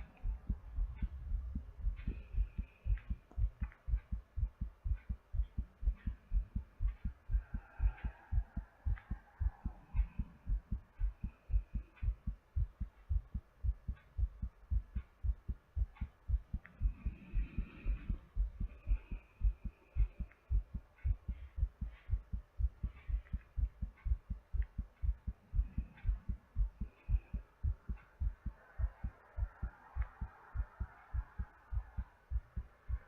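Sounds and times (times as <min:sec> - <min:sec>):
heartbeat lub-dub thumps: 0:00.0 - 0:33.0
soft breathy sound: 0:00.0 - 0:33.0.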